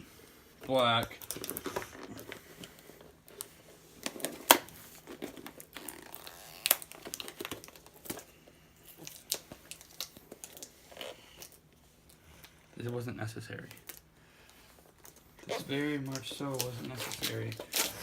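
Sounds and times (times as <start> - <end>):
tape and wrapping crumpling: 0.7 - 12.2, 12.8 - 14.1, 14.8 - 18.0.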